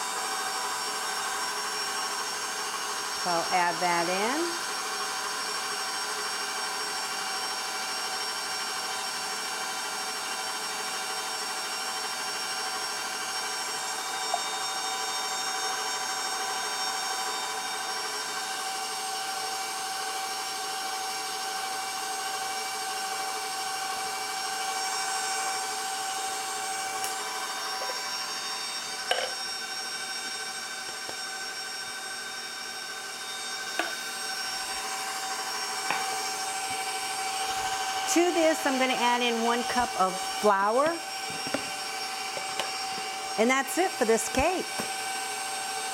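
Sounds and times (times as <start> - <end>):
stand mixer motor whine: 0.0 - 45.9.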